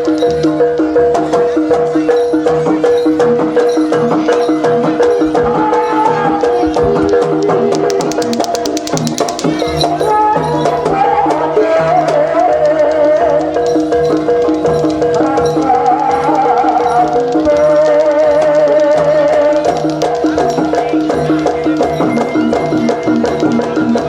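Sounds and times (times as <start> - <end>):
steady drumming: 0.0 - 24.0
struck pitched tones: 0.0 - 24.0
wavering melody line: 2.0 - 24.0.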